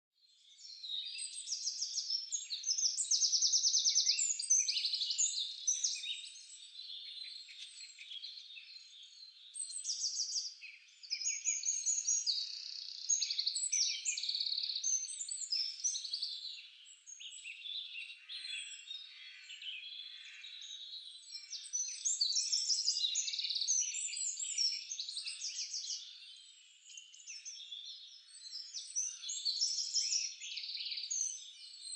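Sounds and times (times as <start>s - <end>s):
songbirds chirping and trilling: 0.2s - 31.9s.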